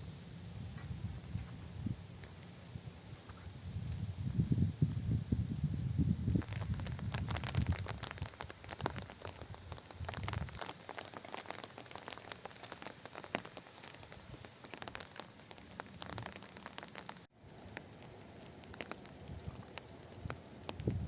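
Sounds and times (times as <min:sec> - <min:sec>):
rain drops ticking on a surface: 0:00.0 - 0:21.0.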